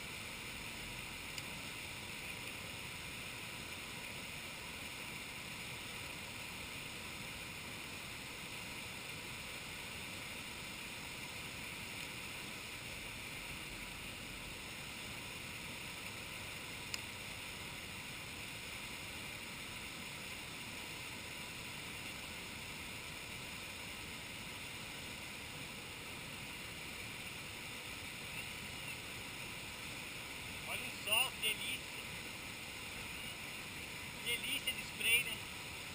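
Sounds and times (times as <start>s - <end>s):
rushing river water: 0.0s - 35.9s.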